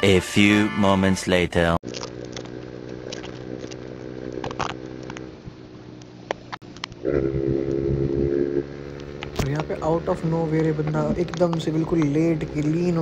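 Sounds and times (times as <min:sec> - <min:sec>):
motorcycle engine: 0:01.8 - 0:13.0.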